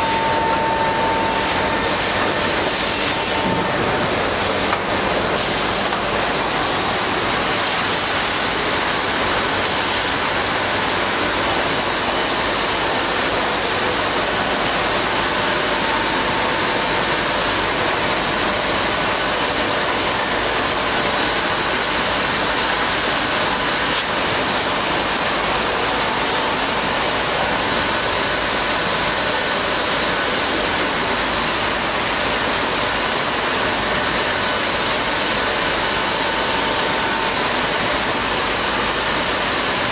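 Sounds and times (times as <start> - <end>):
drilling machine running: 0.0 - 39.9.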